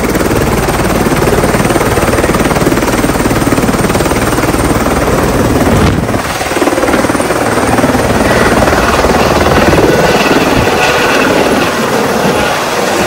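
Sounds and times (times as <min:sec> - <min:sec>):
helicopter rotor chop and turbine: 0:00.0 - 0:13.0.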